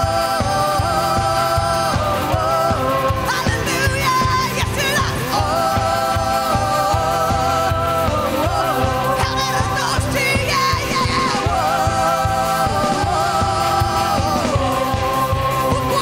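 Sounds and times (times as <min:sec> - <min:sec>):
stage keyboard: 0:00.0 - 0:16.0
women singing together: 0:00.0 - 0:16.0.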